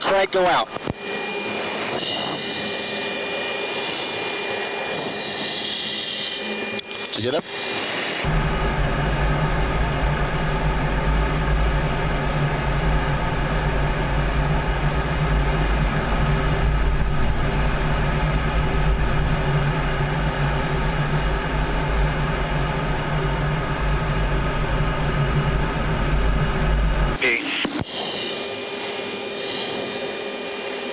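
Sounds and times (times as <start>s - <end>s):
jet engine rumble: 0.0s - 30.9s.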